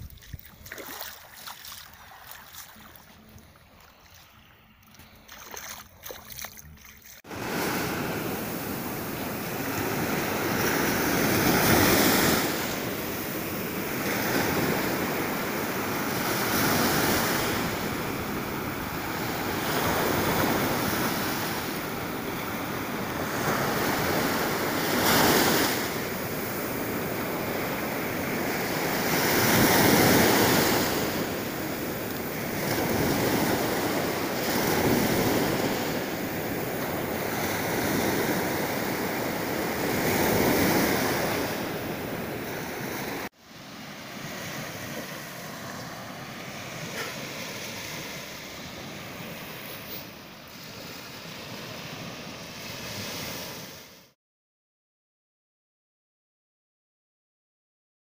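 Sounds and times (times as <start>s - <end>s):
waves washing up a shore: 0.0s - 54.2s.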